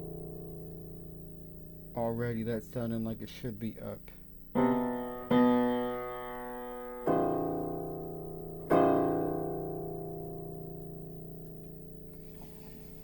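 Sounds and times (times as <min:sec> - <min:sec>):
low bass piano note ringing: 0:00.0 - 0:03.8, 0:04.6 - 0:12.4.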